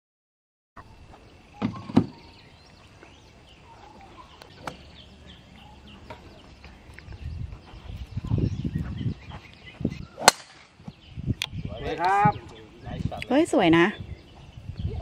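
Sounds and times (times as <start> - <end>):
faint bird chirps: 0.8 - 15.0.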